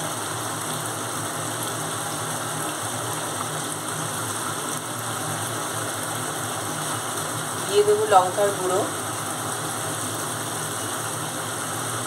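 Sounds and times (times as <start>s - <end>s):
sauce sizzling and bubbling in a pan: 0.0s - 12.0s.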